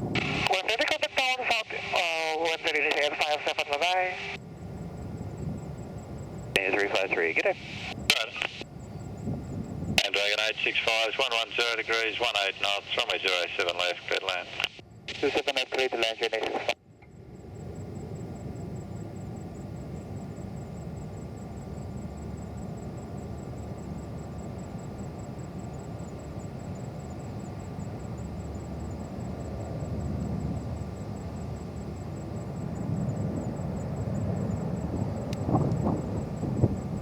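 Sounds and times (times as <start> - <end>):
distant jet airliner rumble: 0.0 - 37.0.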